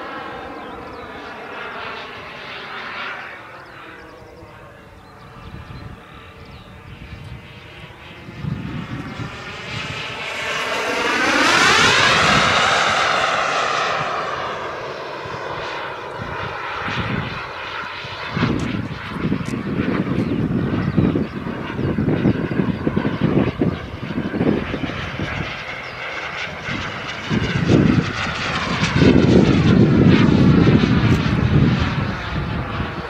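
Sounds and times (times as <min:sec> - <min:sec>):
jet turbine whine passing: 0:00.0 - 0:33.0.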